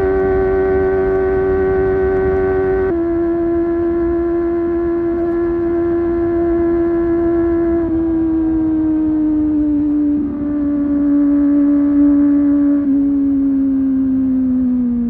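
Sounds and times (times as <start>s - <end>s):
motorcycle engine at high revs: 0.0s - 15.0s
wind rumble: 0.0s - 15.0s.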